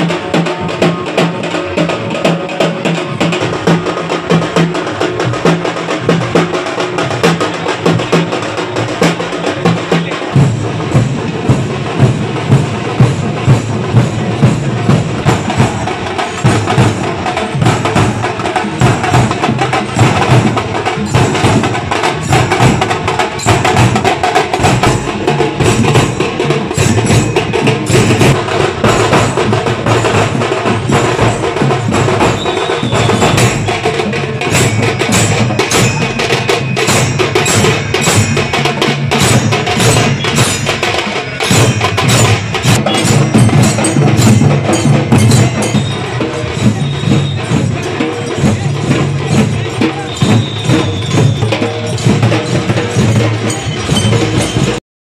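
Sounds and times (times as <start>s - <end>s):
hand cymbals clashing: 0.0s - 54.8s
large drums beaten with sticks: 0.0s - 54.8s.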